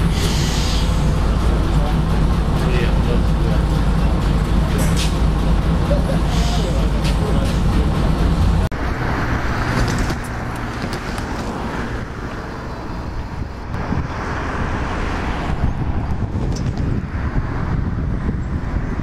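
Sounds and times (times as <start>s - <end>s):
approaching railcar rumble and hiss: 0.0s - 19.0s
railcar engine rumbling: 0.0s - 19.0s.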